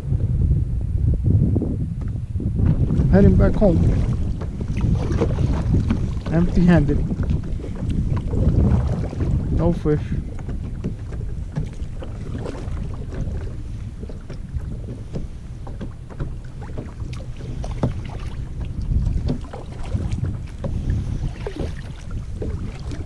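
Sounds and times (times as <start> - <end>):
wind buffeting microphone: 0.0 - 23.0
kayak paddle splashing water: 2.6 - 23.0.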